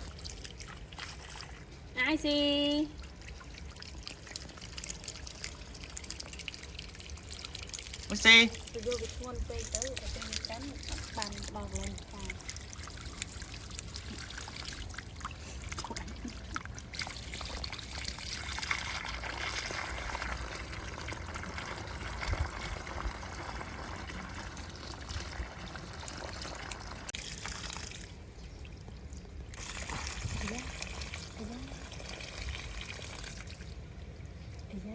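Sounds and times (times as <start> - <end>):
water pouring and trickling: 0.0 - 34.9.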